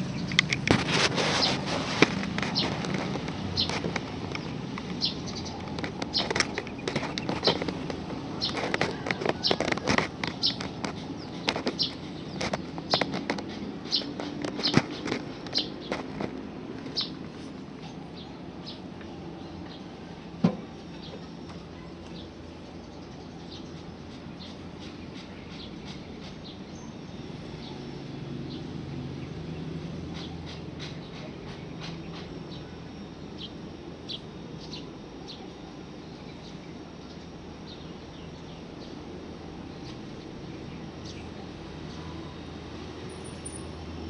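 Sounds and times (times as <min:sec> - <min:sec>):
air conditioner unit humming: 0:00.0 - 0:44.0.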